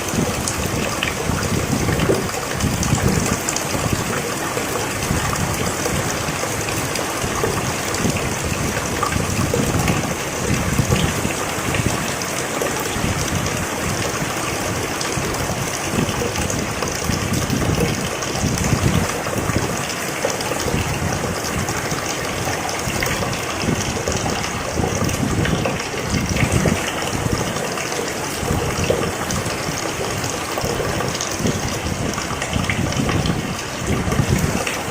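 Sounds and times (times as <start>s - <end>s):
rain patter: 0.0s - 34.9s.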